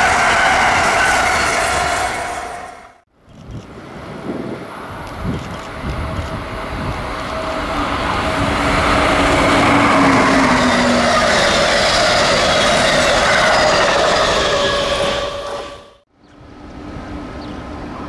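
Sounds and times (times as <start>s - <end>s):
passenger train running past: 0.0s - 3.0s, 3.8s - 18.0s.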